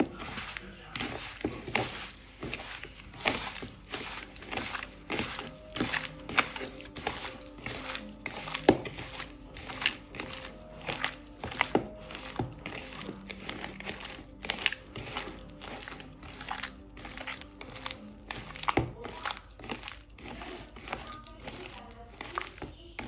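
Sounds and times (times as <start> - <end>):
crinkling and rustling: 0.0 - 23.0
soft background music: 0.0 - 23.0.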